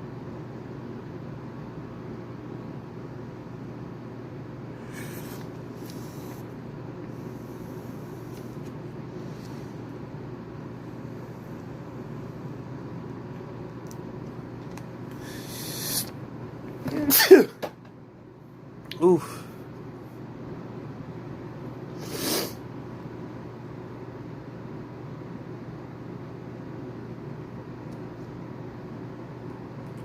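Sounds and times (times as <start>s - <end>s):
low hum and hiss: 0.0s - 30.0s.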